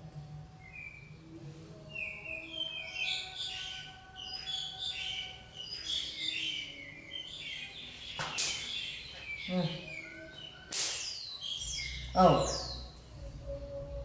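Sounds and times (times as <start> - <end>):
small birds chirping: 0.6 - 13.6.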